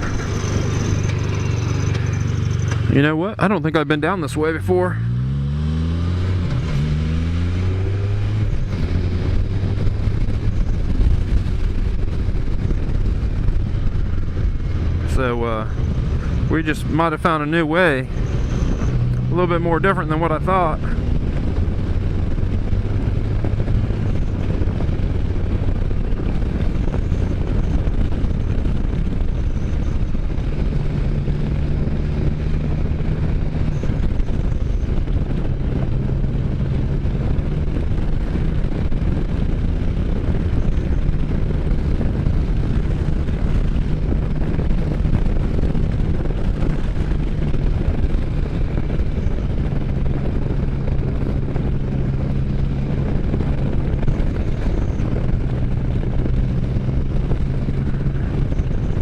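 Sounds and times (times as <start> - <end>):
roadster engine running: 0.0 - 59.0
wind rushing over microphone: 0.0 - 59.0.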